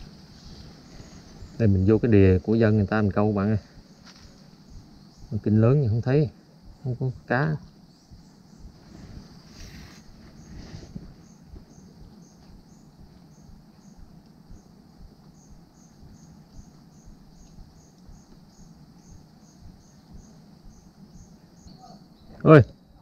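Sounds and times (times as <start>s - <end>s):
insect chirping: 0.0s - 23.0s
low background noise: 0.0s - 23.0s.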